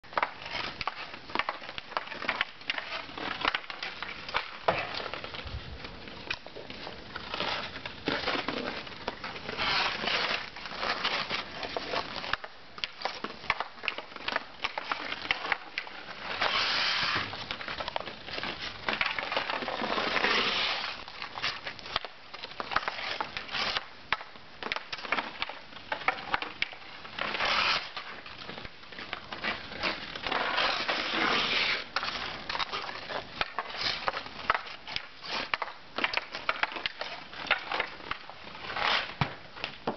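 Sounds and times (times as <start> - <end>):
hockey stick tapping puck: 0.1 - 5.4, 6.2 - 39.9
ice skates scraping: 0.1 - 39.9.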